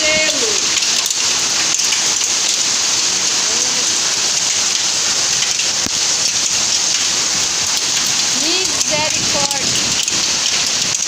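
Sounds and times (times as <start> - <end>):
hail and heavy rain: 0.0 - 11.0
hailstones ticking on surfaces: 0.0 - 11.0.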